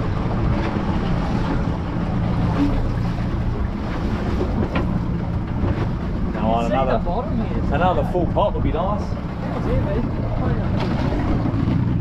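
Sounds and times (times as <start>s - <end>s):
boat motor idling: 0.0s - 12.0s
water washing against hull: 0.0s - 12.0s.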